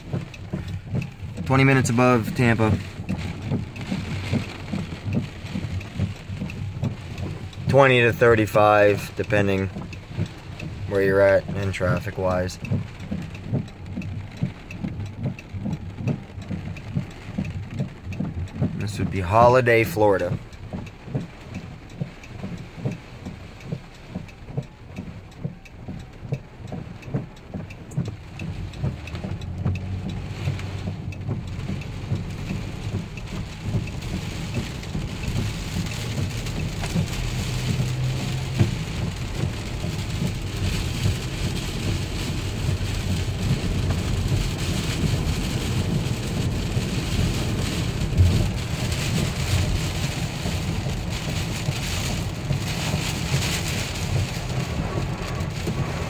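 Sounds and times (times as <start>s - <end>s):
low road rumble: 0.0s - 56.0s
rain beating on a car: 0.0s - 56.0s
soft regular thumps: 0.0s - 56.0s
wind buffeting a car: 0.0s - 56.0s.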